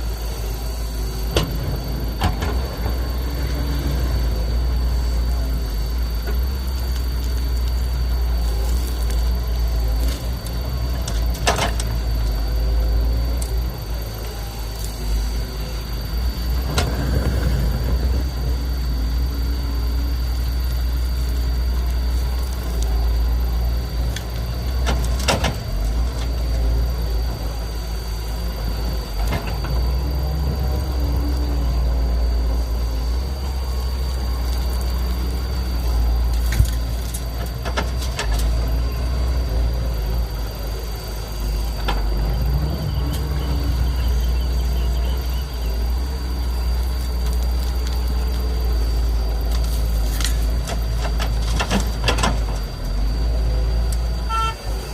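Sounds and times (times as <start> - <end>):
excavator diesel engine rumbling: 0.0 - 54.9.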